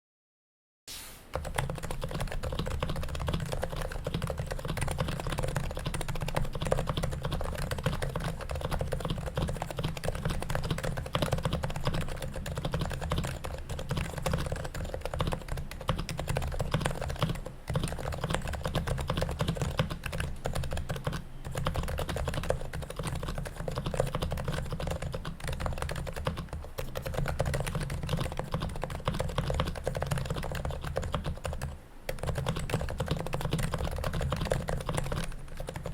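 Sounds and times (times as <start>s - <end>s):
fast keyboard typing: 1.3s - 35.9s.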